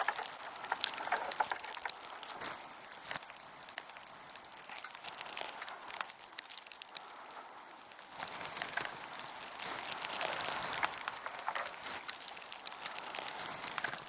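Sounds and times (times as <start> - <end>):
moose antlers clicking and scraping: 0.0 - 14.0.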